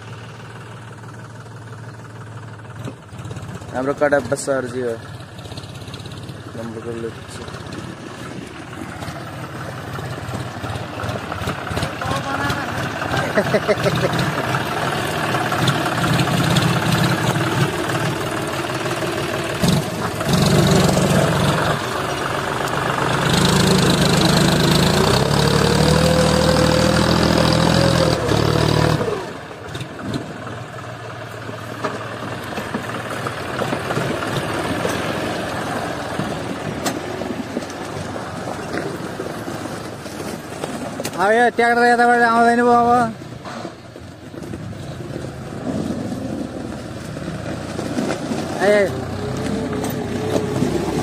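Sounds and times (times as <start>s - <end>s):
tractor diesel engine running: 0.0s - 51.0s
trailer on rough gravel road: 0.0s - 51.0s.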